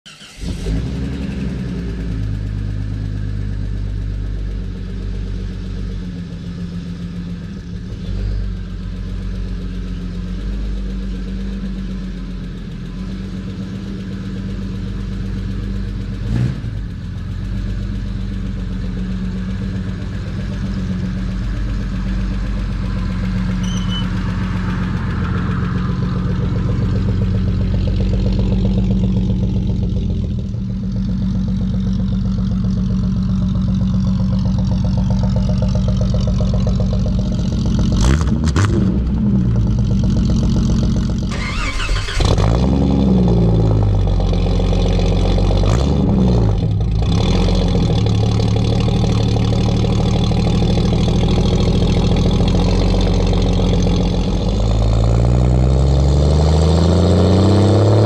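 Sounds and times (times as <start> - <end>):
low exhaust note: 0.3 - 58.0.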